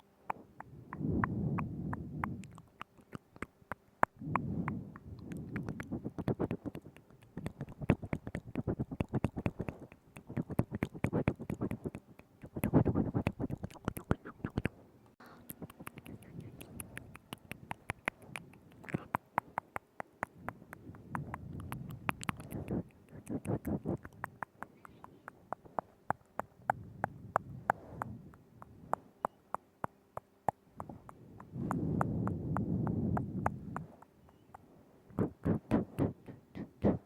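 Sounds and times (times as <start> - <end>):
wet mouth clicks and smacks: 0.3 - 14.7, 15.5 - 37.0.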